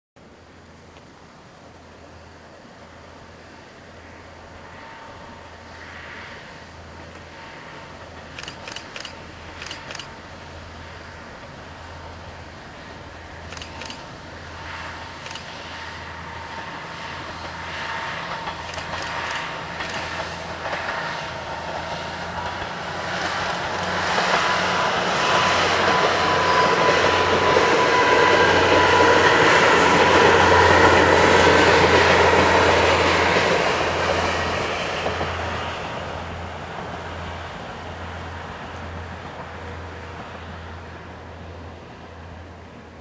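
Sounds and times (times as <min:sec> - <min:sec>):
diesel train passing: 0:00.2 - 0:43.0.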